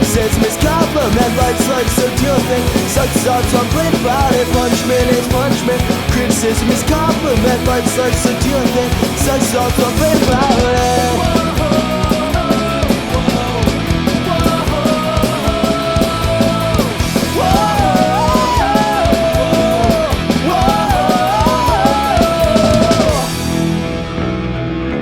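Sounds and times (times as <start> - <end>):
bending lead guitar line: 0.0 - 25.0
punk rock band playing: 0.0 - 25.0.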